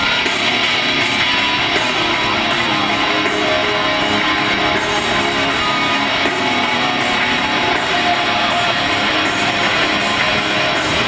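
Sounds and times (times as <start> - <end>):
music with strummed electric guitar: 0.0 - 11.0.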